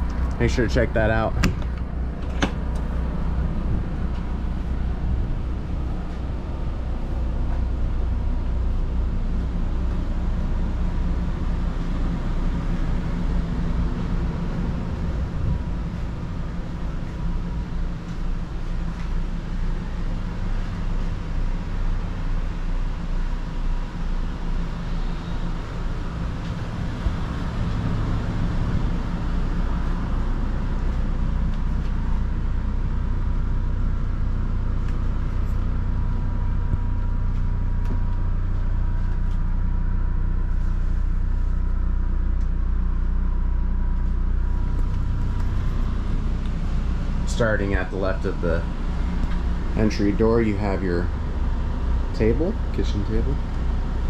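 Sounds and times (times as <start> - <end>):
faint steady whine: 0.0 - 54.0
low machine rumble: 0.0 - 54.0.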